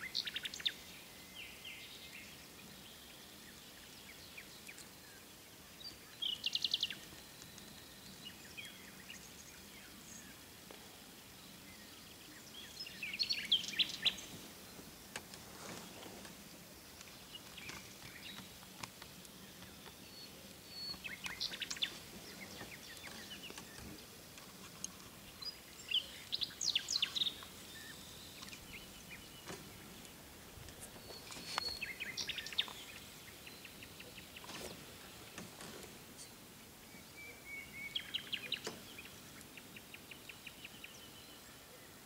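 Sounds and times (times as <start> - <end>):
faint background noise: 0.0 - 42.0
small birds chirping: 0.0 - 42.0.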